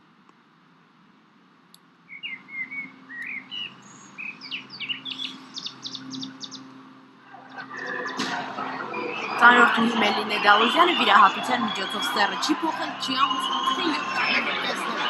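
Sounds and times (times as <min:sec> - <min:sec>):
birds chirping and whistling: 0:02.1 - 0:15.0.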